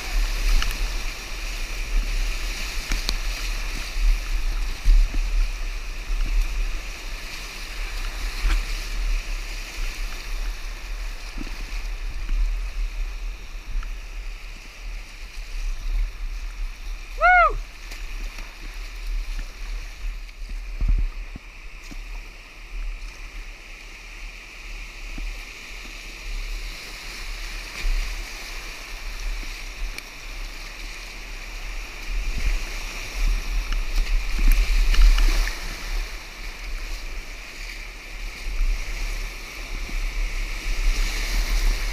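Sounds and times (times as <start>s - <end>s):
whitewater rushing and splashing: 0.0s - 41.9s.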